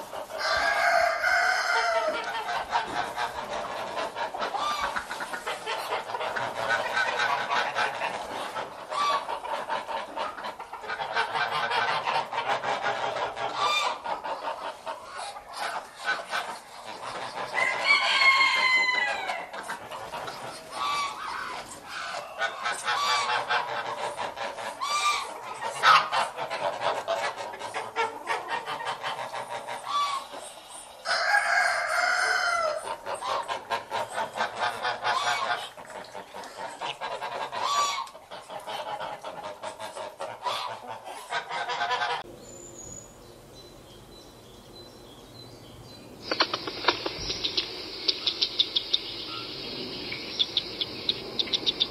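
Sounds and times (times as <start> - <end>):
poultry calling: 0.0 - 42.3, 46.2 - 51.9.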